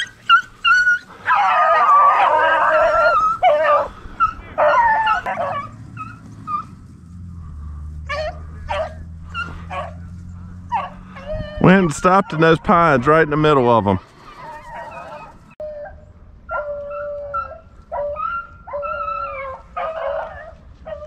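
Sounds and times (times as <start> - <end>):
beagles baying and yelping: 0.0 - 21.0.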